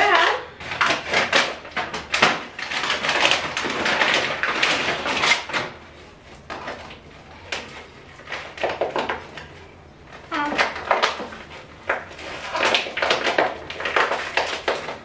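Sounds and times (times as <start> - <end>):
paper and plastic wrapping rustling: 0.0 - 15.0.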